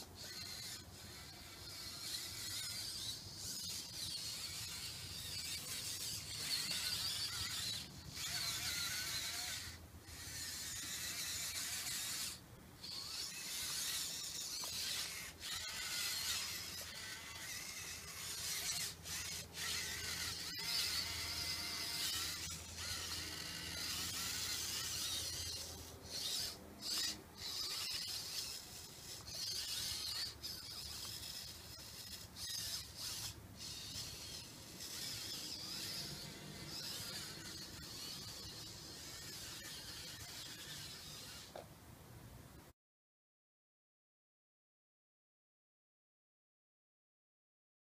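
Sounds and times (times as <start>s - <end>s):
electric motors whining: 0.0s - 41.6s.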